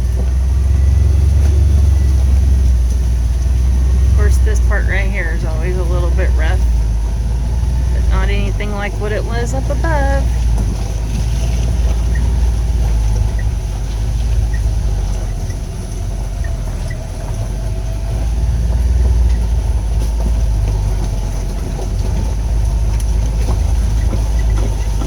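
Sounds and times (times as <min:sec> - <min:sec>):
vehicle driving on gravel: 0:00.0 - 0:25.0.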